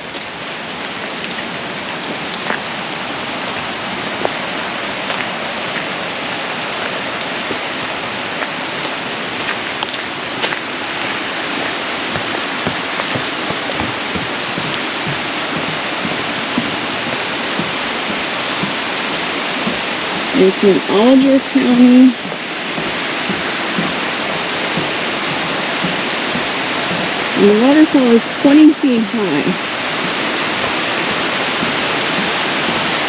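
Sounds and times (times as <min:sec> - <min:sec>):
falling rain: 0:00.0 - 0:33.0
waterfall rushing: 0:00.0 - 0:33.0.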